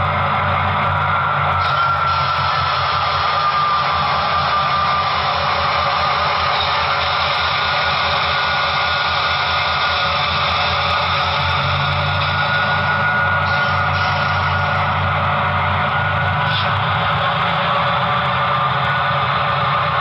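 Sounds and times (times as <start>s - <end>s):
diesel engine sound from small speaker: 0.0s - 20.0s
model train running hiss: 0.0s - 20.0s.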